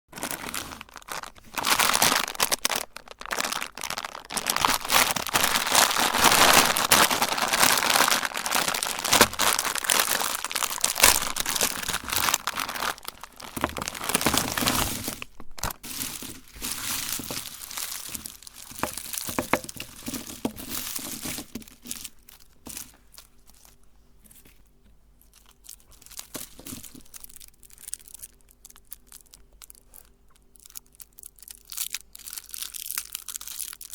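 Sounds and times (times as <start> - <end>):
candy crunching in meat grinder: 0.2 - 23.0, 25.4 - 33.9.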